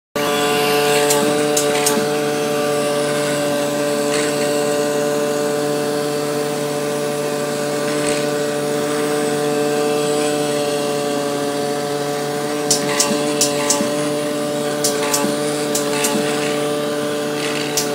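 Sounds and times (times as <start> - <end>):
machine humming: 0.2 - 17.9.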